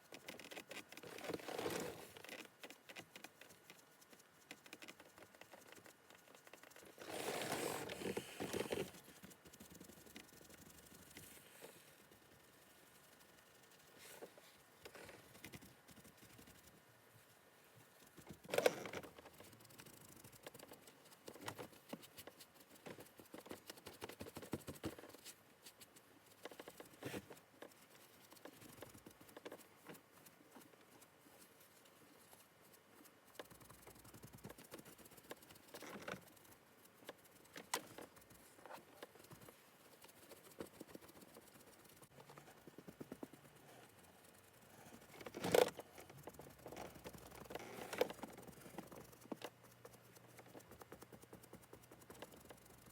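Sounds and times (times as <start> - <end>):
small taps and rustles: 0.0 - 52.9.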